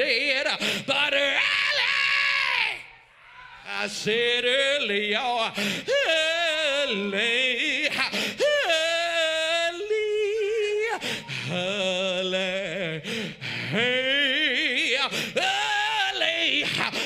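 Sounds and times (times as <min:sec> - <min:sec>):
man singing through microphone: 0:00.0 - 0:02.8, 0:03.6 - 0:17.0.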